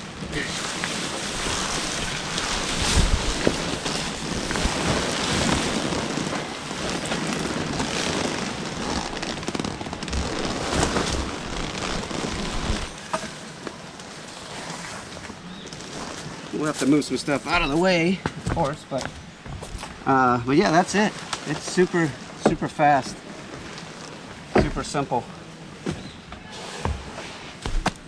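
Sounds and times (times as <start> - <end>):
tent fabric rustling and crackling: 0.0 - 28.0.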